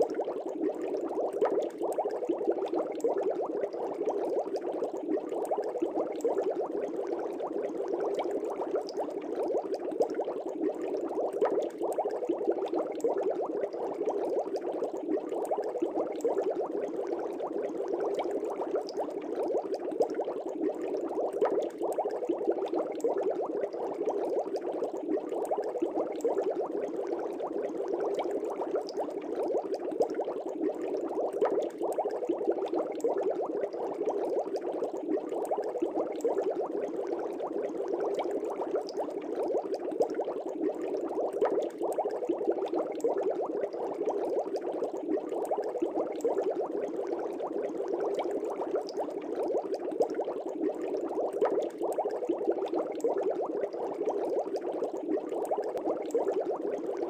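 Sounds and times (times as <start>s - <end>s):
air bubbles in water: 0.0s - 57.0s.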